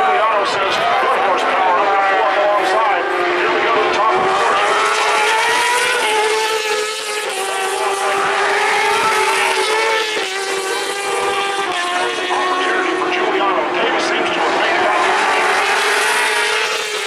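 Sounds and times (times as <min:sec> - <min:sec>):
racing motorcycles at full throttle: 0:00.0 - 0:17.0.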